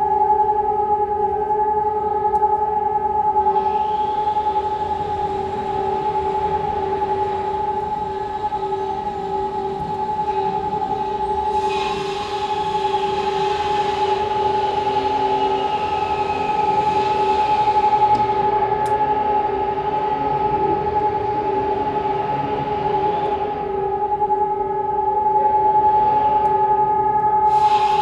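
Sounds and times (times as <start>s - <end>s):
air raid siren steady tone: 0.0s - 28.0s
faint wavering high whine: 0.0s - 28.0s.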